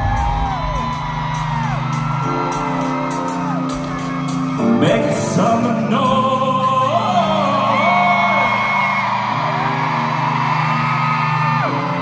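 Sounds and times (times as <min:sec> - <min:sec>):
backing music: 0:00.0 - 0:12.0
crowd screaming and cheering: 0:00.0 - 0:12.0.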